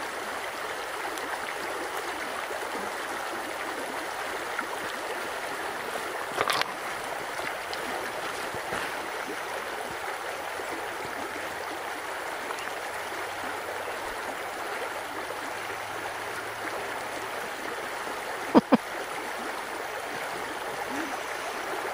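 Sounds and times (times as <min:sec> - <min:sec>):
creek running over gravel: 0:00.0 - 0:21.9.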